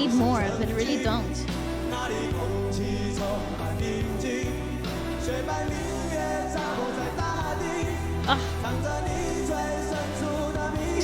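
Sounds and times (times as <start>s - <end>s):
bass line: 0.0s - 11.0s
live rock band: 0.0s - 11.0s
man singing: 0.0s - 11.0s.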